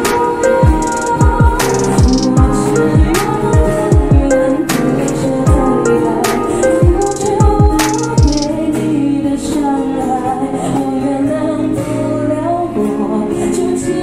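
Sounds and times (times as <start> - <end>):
woman singing song: 0.0 - 14.0.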